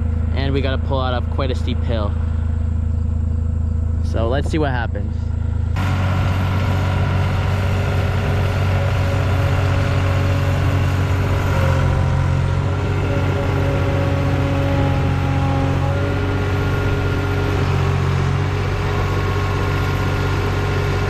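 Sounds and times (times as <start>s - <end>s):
vehicle engine under heavy load: 0.0s - 21.0s.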